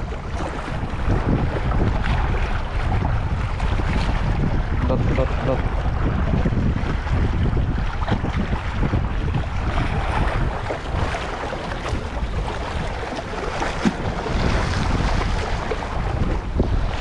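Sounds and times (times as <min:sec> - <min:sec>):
waves splashing against rocks: 0:00.0 - 0:17.0
wind buffeting microphone: 0:00.0 - 0:17.0.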